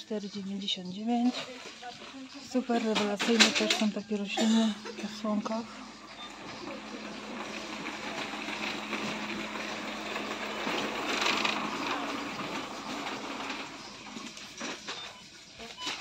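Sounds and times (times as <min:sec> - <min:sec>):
low machine hum: 0:00.1 - 0:15.9.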